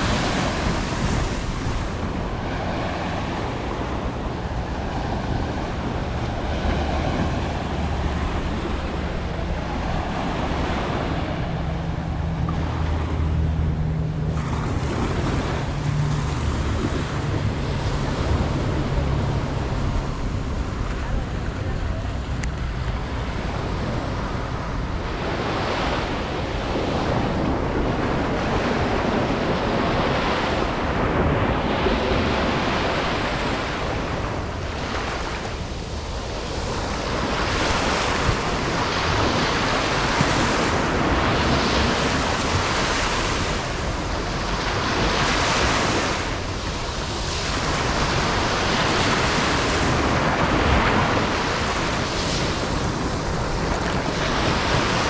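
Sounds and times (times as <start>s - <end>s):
waves washing up sandy shore: 0.0s - 55.0s
wind rumbling on microphone: 0.0s - 55.0s.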